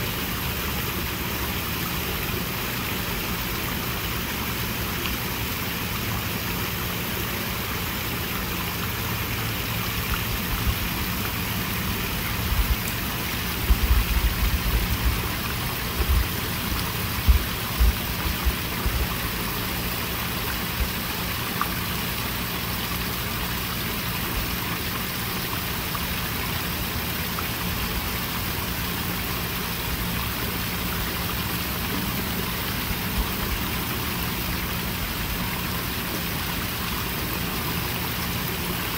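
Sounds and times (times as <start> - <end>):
waterfall splashing into pond: 0.0 - 38.9.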